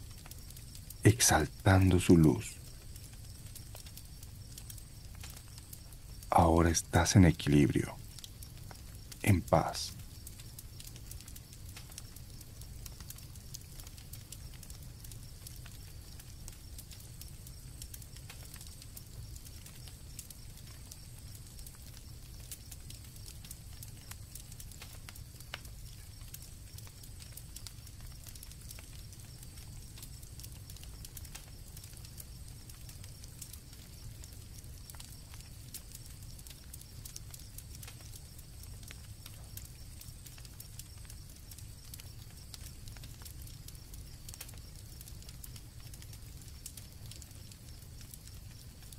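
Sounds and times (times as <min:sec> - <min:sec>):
campfire crackling and popping: 0:00.0 - 0:48.9
crickets trilling: 0:00.0 - 0:48.9.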